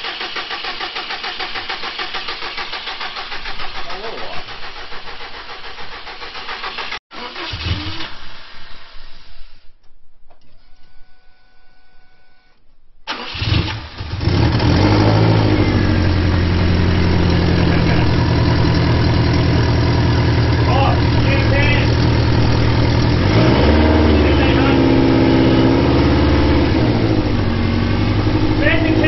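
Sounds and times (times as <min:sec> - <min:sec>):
car engine cranking and idling: 0:00.0 - 0:09.3, 0:13.1 - 0:29.0.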